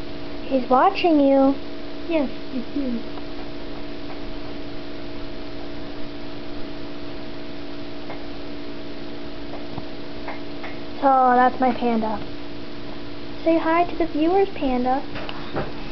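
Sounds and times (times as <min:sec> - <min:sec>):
electrical hum: 0:00.0 - 0:15.9.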